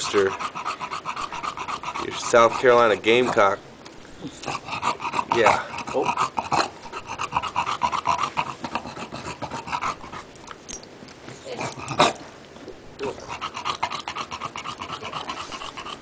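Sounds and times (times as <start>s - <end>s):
dog panting: 0.0s - 3.6s, 4.2s - 10.5s, 13.0s - 16.0s.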